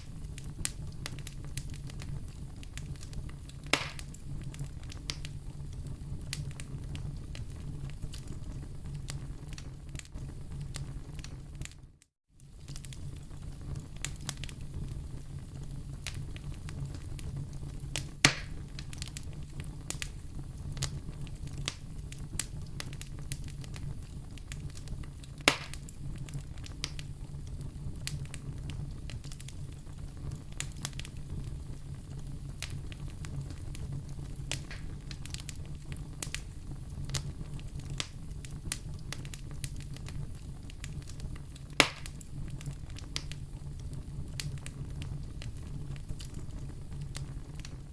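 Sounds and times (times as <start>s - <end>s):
fire crackles and pops: 0.0s - 47.9s
fire low rumble: 0.0s - 47.9s.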